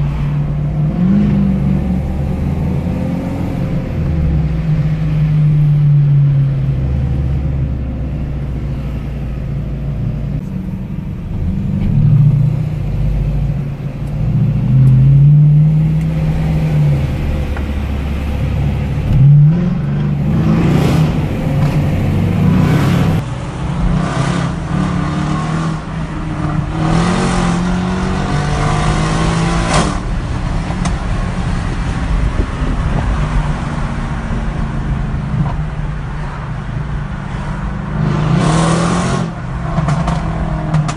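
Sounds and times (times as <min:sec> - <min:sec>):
car engine rumbling and accelerating: 0:00.0 - 0:40.9.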